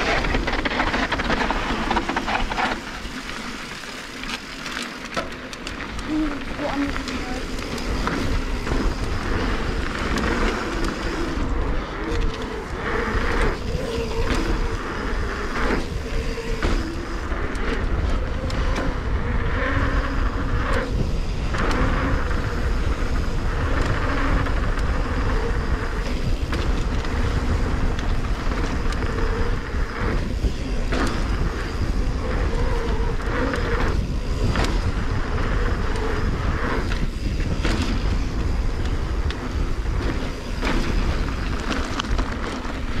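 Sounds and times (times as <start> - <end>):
bike rattling over bumps: 0.0 - 43.0
tyres rolling on dirt: 0.0 - 43.0
wind buffeting microphone: 5.6 - 43.0.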